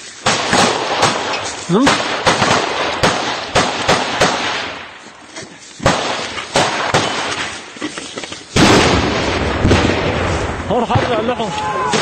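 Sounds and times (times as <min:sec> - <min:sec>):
gunshots: 0:00.2 - 0:04.9, 0:05.8 - 0:07.7, 0:08.5 - 0:12.0.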